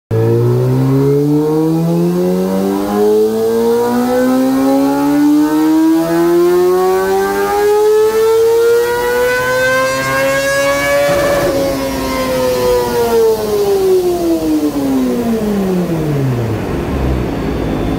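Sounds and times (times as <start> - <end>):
motorcycle engine revving to high wail: 0.1 - 17.5.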